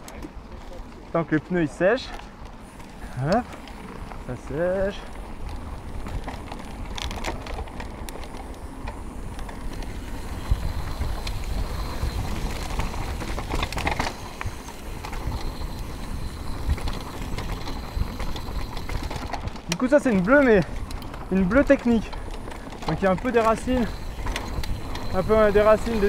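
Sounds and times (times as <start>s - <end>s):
bike rattling over bumps: 0.0s - 26.0s
bike tyres rolling over dirt: 0.0s - 26.0s.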